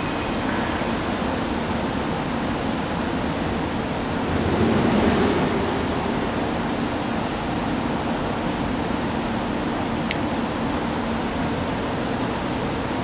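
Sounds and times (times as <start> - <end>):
factory drone: 0.0 - 13.0.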